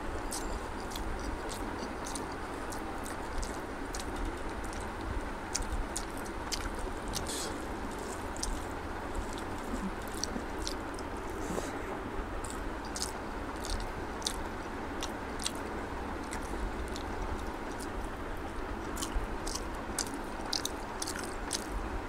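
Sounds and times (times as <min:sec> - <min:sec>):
fingers squishing rice: 0:00.0 - 0:11.7, 0:12.4 - 0:21.9
wet chewing: 0:00.1 - 0:21.9.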